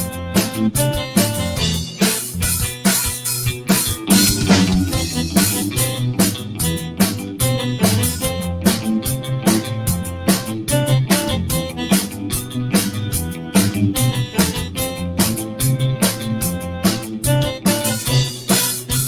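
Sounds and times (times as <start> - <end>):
drum kit beat: 0.0 - 19.0
guitar: 0.0 - 19.0.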